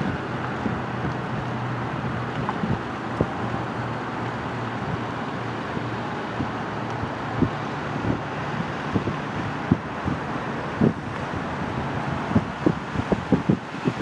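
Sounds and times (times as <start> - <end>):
wind thumps on microphone: 0.0 - 5.1, 5.7 - 14.0
distant road traffic: 0.0 - 14.0.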